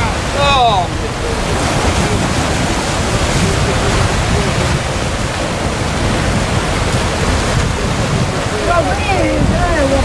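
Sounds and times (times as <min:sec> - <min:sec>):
surf breaking over rocks: 0:00.0 - 0:10.0.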